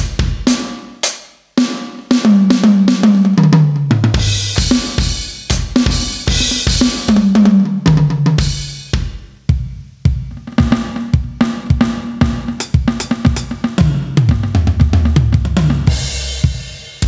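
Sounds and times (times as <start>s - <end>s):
electronic drum tom fill: 0.0s - 17.0s.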